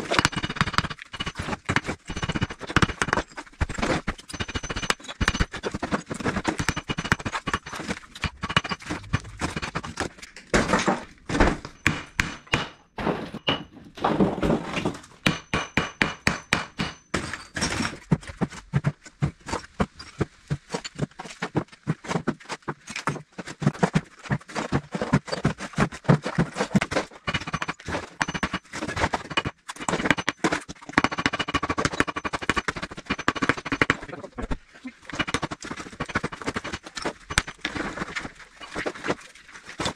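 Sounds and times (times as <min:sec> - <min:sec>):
bricks knocking and clattering: 0:00.0 - 0:39.9.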